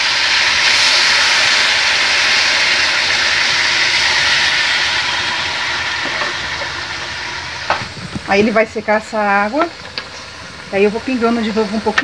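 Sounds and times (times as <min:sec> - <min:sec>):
chicken sizzling in hot fat: 0:00.0 - 0:12.0.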